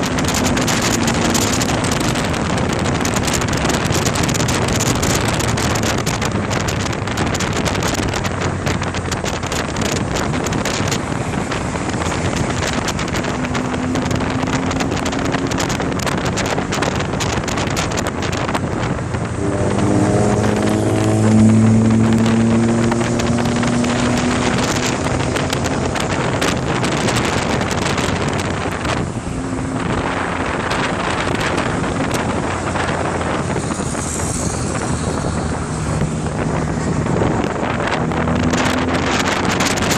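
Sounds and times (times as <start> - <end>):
car engine revving: 0.0 - 39.9
exhaust crackling and popping: 0.0 - 39.9
wind noise: 0.0 - 39.9.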